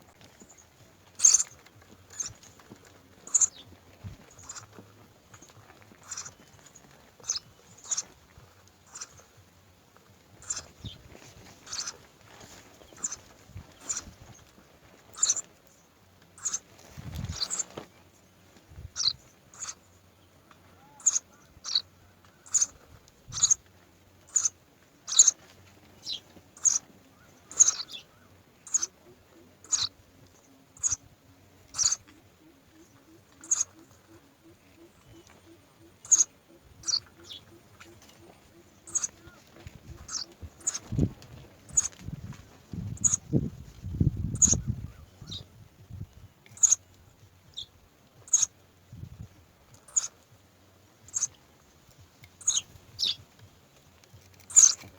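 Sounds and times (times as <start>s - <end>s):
bird chirping: 0.1s - 8.2s, 8.8s - 9.3s, 10.4s - 14.5s, 15.1s - 15.8s, 16.4s - 45.5s, 46.5s - 49.0s, 49.8s - 50.2s, 51.0s - 53.4s, 54.1s - 54.9s.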